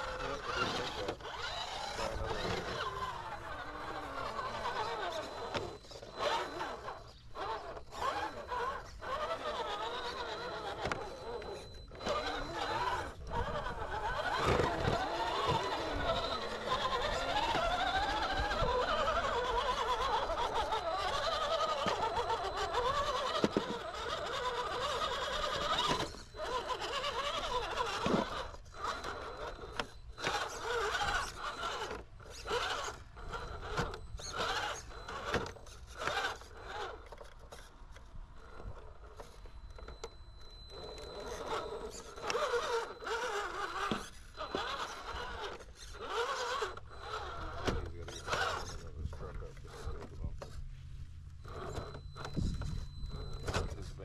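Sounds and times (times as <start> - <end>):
electric motor and gears whining: 0.0 - 54.0.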